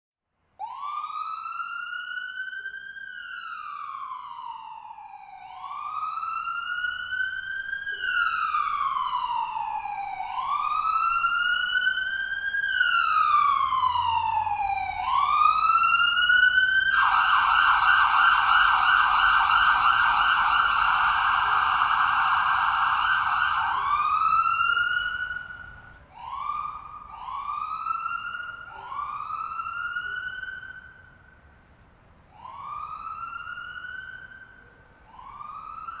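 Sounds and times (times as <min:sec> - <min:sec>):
ambulance siren wailing: 0:00.6 - 0:31.4, 0:32.3 - 0:36.0.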